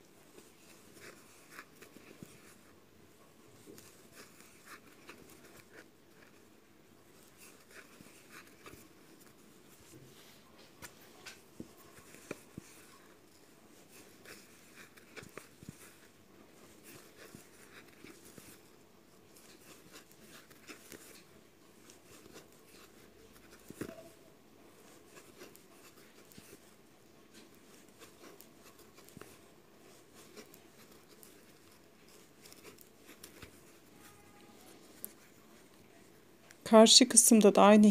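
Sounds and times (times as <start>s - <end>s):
crochet hook scratching yarn: 0.2s - 36.6s.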